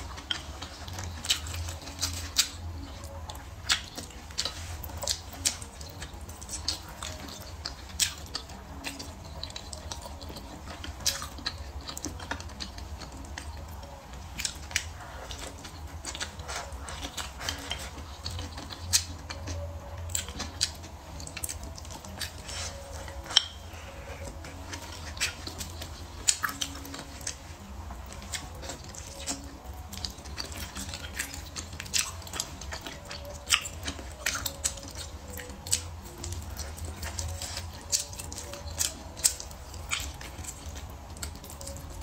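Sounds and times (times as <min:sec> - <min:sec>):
person chewing and smacking: 0:00.0 - 0:42.0.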